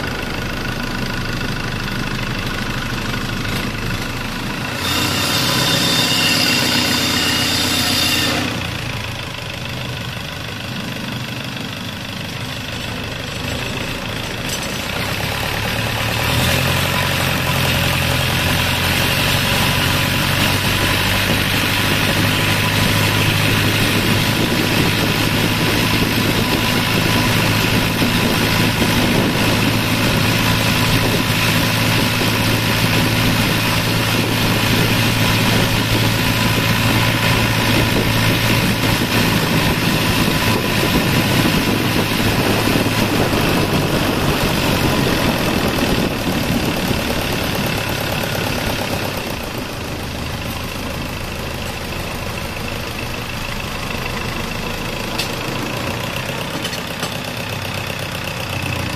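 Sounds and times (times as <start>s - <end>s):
motorboat engine running: 0.0s - 58.9s.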